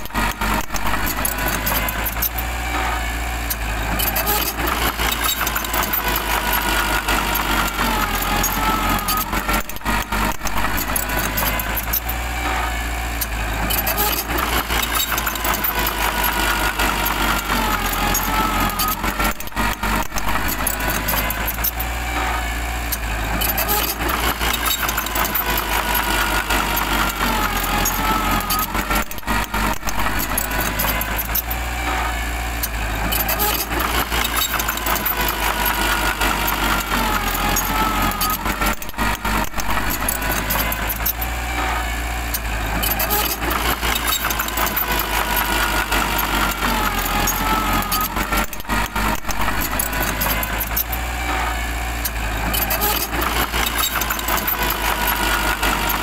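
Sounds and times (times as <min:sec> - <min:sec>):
bulldozer engine running under load: 0:00.0 - 0:56.0.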